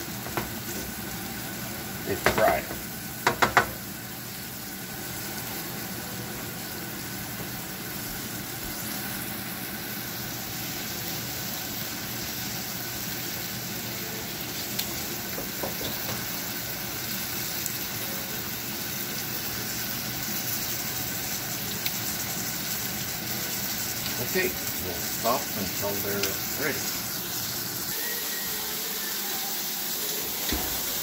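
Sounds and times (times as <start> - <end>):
shrimp sizzling in a frying pan: 0.0 - 31.0.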